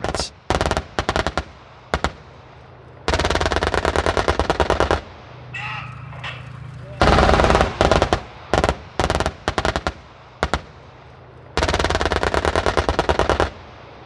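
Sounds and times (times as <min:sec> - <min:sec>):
autocannon firing bursts: 0:00.0 - 0:13.7.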